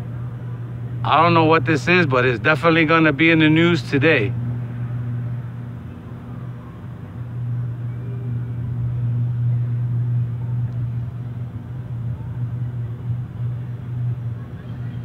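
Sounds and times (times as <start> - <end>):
power transformer humming: 0.0 - 15.0.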